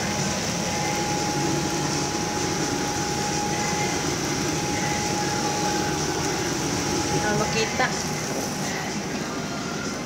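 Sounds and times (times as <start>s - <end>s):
fan-like whirring hum and hiss: 0.0s - 10.0s.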